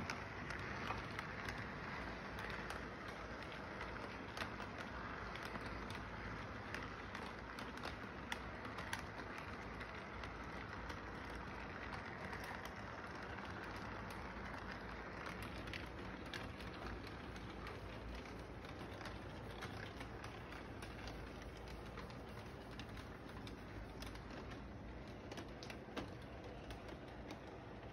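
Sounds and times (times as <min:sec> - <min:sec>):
model train rumbling on track: 0:00.0 - 0:27.9
wheels clicking over rail joints: 0:00.0 - 0:27.9.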